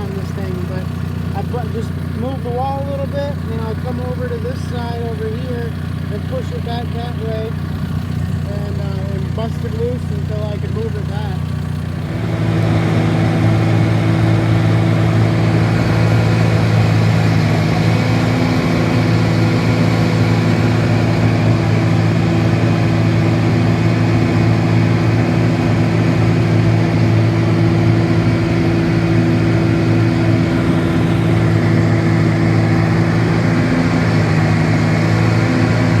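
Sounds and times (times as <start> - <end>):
bulldozer diesel engine under load: 0.0 - 36.0.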